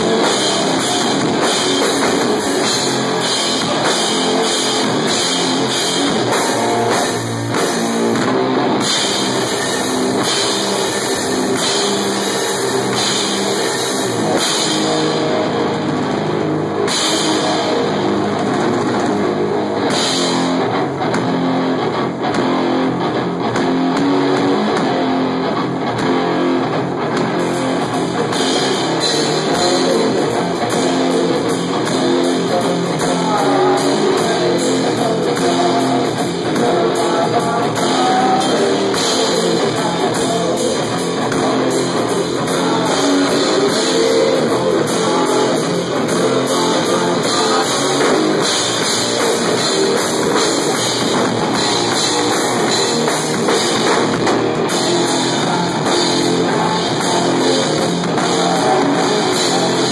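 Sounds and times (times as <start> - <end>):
drum kit with crashing cymbals: 0.0 - 21.6, 27.2 - 59.9
distorted electric guitar: 0.0 - 59.9.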